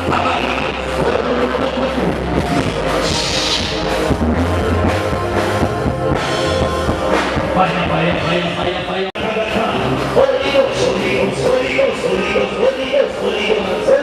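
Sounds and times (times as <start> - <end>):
bass playing: 0.0 - 14.0
drum kit beat: 0.0 - 14.0
live band music: 0.0 - 14.0.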